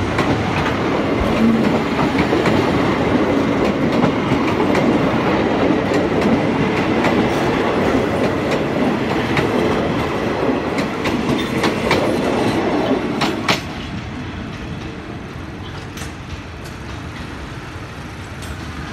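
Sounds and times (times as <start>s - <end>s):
train wheels rumbling on rail: 0.0s - 18.9s.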